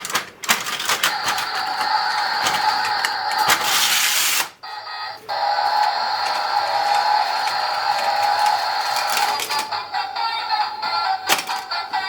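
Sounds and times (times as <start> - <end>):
toy mechanism clicking and whirring: 0.0 - 12.0.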